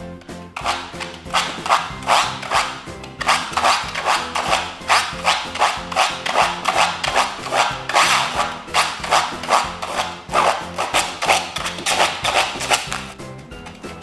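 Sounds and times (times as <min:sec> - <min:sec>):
background music: 0:00.0 - 0:14.0
spinning bottle cap whirring: 0:00.6 - 0:14.0.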